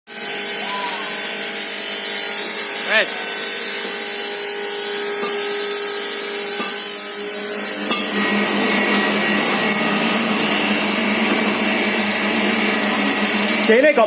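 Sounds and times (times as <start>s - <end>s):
machine hum with high whine: 0.1s - 14.0s
packing machine whirring: 0.1s - 14.0s.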